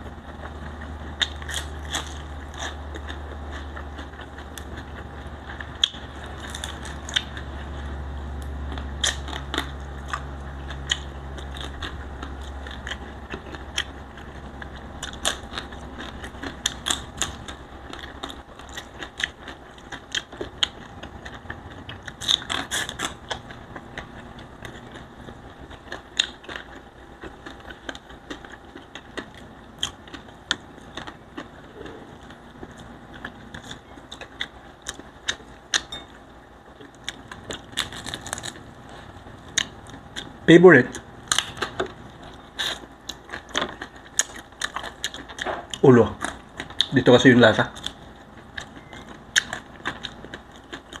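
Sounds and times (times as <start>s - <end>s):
chewing and crunching: 0.0s - 51.0s.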